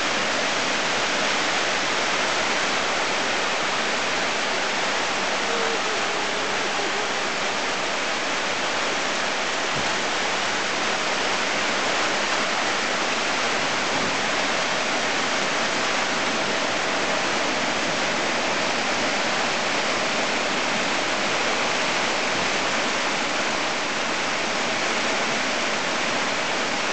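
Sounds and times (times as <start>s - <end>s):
heavy rain pouring: 0.0s - 26.9s
water streaming off roof: 0.0s - 26.9s.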